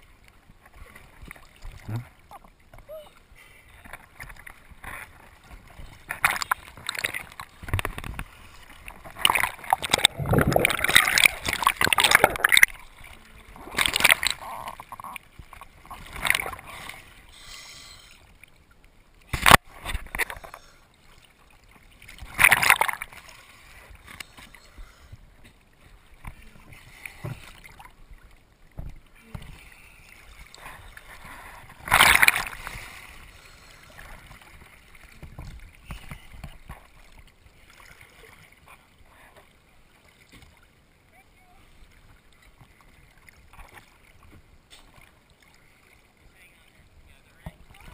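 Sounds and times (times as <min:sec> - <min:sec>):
sea water splashing: 0:00.0 - 0:47.9.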